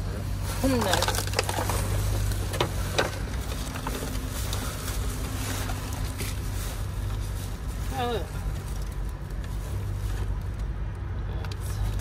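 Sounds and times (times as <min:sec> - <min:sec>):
rustles and knocks of rummaging: 0:00.0 - 0:10.7.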